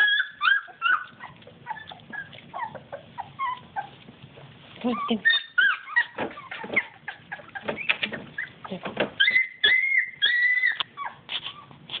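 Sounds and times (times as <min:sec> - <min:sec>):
puppies whining and squealing: 0:00.0 - 0:12.0.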